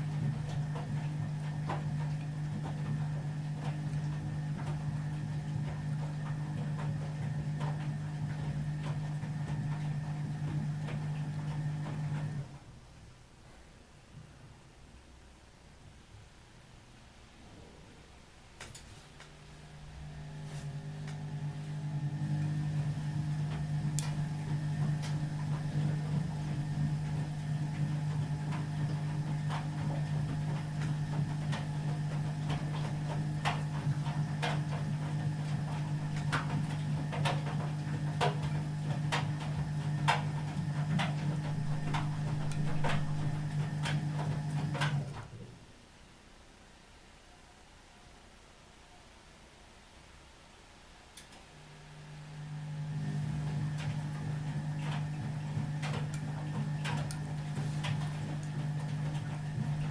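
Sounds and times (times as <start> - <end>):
washing machine drain pump humming: 0.0 - 13.0, 19.2 - 45.9, 51.0 - 59.9.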